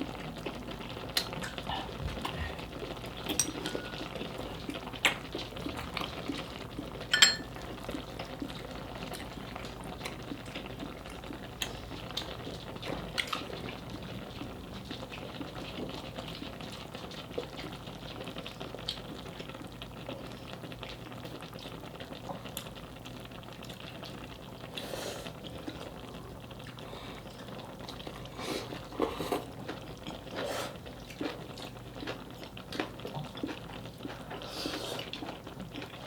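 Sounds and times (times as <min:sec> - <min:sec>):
broth bubbling in a pan: 0:00.0 - 0:36.0.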